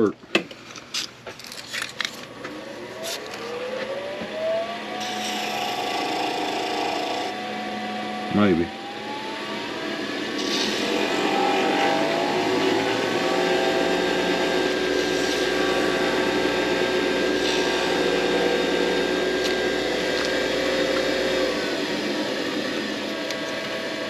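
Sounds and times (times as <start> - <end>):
wood lathe motor whine: 2.4 - 24.0.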